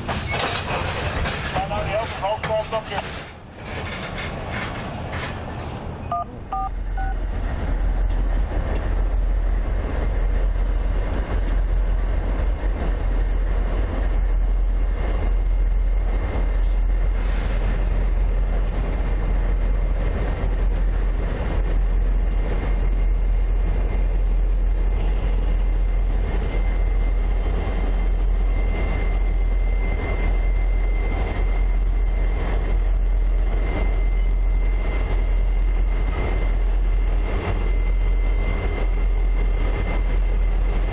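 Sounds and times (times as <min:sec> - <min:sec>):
diesel train rumbling: 0:00.0 - 0:40.9.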